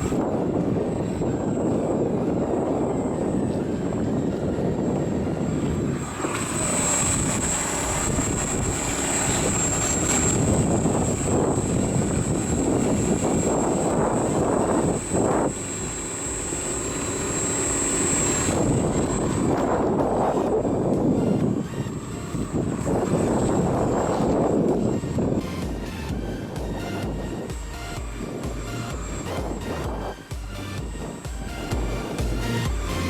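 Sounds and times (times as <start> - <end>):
low rushing noise: 0.0 - 33.0
thin high whine: 0.0 - 33.0
trolling motor running: 0.0 - 33.0.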